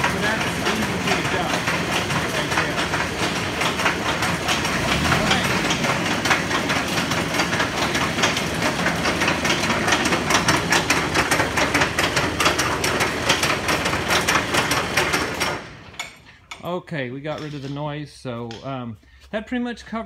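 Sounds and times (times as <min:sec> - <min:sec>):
tractor engine running: 0:00.0 - 0:18.7.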